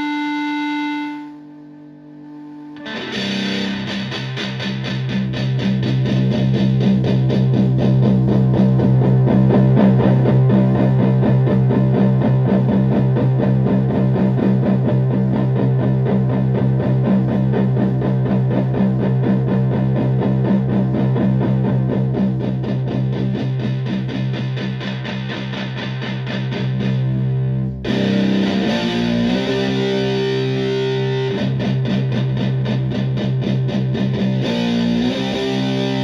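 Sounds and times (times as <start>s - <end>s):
distorted electric guitar: 0.0s - 36.0s.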